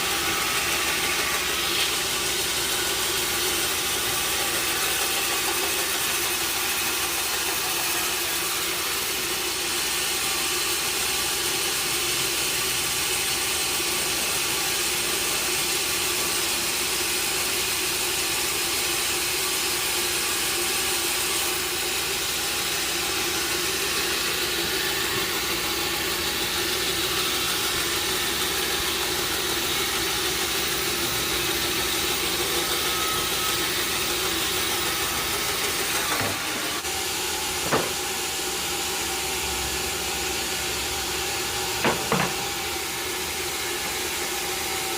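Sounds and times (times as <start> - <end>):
sawmill machinery hum: 0.0 - 44.9.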